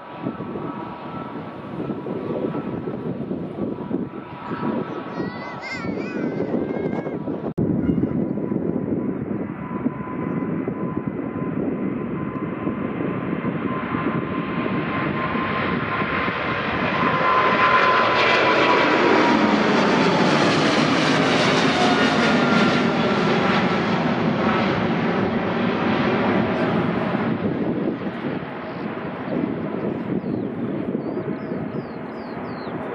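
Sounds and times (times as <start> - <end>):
jet airliner passing with whine: 0.0 - 32.9.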